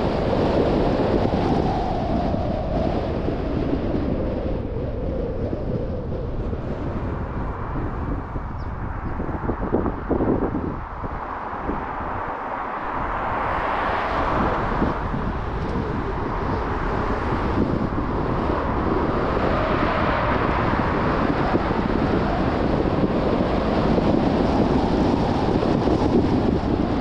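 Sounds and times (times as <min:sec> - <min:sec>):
car tyre and wind noise: 0:00.0 - 0:27.0.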